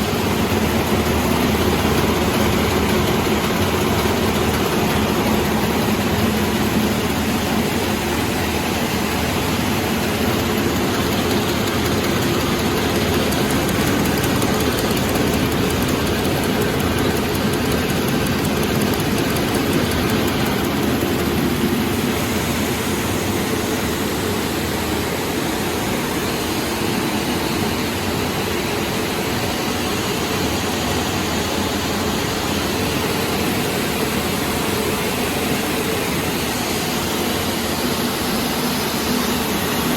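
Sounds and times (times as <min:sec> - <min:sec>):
production line machinery hum: 0:00.0 - 0:39.9.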